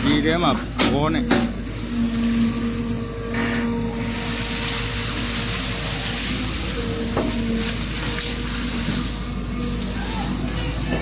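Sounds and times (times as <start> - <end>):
constant hiss: 0.0 - 11.0
engine running steadily: 0.0 - 11.0.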